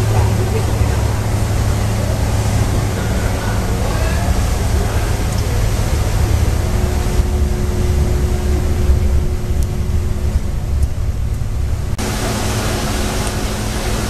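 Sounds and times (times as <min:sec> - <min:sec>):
churning wake water: 0:00.0 - 0:14.0
ferry engine rumble: 0:00.0 - 0:14.0
wind: 0:00.0 - 0:14.0.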